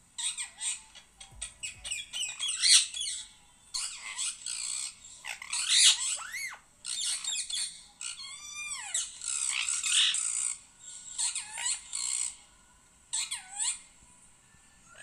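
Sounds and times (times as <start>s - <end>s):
parakeet squawks: 0.2s - 12.4s, 13.1s - 13.9s.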